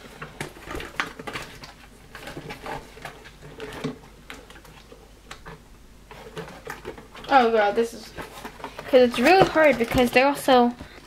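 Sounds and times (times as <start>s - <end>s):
packaging clicks and rustles: 0.0s - 11.0s.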